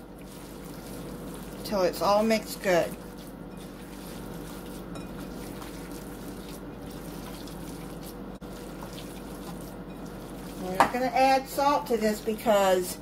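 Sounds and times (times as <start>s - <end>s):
hands squelching wet meat mixture: 0.0s - 11.4s.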